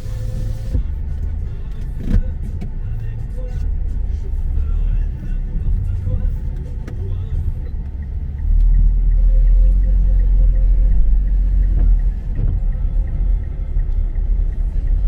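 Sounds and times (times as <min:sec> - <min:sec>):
strong low rumble: 0:00.0 - 0:15.0.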